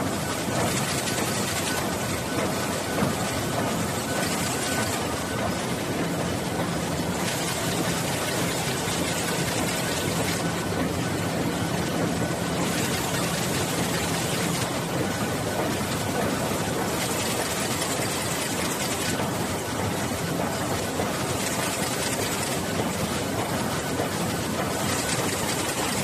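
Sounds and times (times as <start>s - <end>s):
conveyor machine drone: 0.0s - 26.0s.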